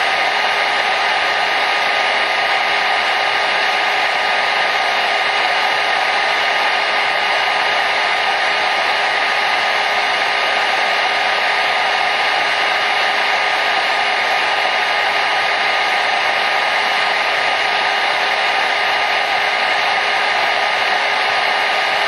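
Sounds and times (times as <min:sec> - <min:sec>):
hair dryer blowing air: 0:00.0 - 0:22.0.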